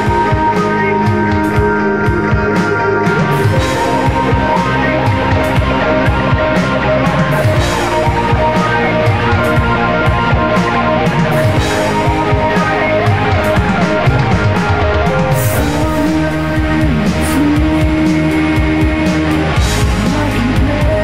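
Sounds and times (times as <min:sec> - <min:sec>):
rock music: 0:00.0 - 0:21.0.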